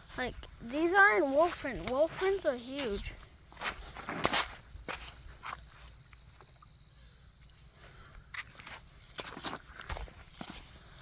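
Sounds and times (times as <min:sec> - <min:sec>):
footsteps on ground: 0:00.0 - 0:06.6, 0:08.3 - 0:11.0
high-pitched insect trill: 0:00.0 - 0:10.5.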